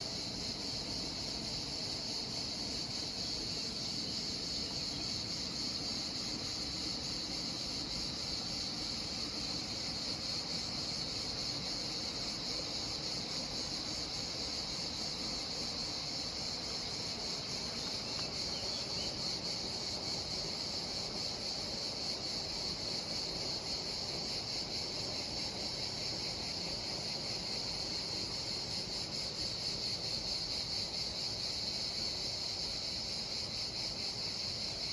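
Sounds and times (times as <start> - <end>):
insects buzzing trill: 0.0 - 34.9.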